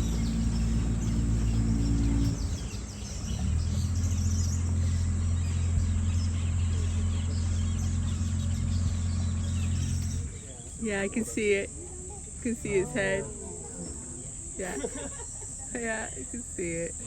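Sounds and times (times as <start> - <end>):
birds chirping: 0.0 - 17.0
insects chirping: 0.0 - 17.0
steady low hum: 0.0 - 17.0.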